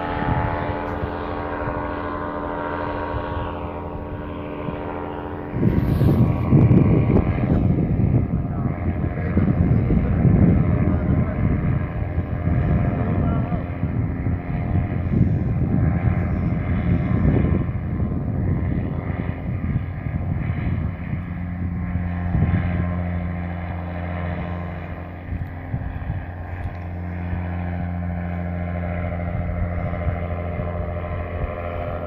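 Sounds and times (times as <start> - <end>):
paramotor engine droning: 0.0 - 32.0
wind buffeting microphone: 0.0 - 32.0.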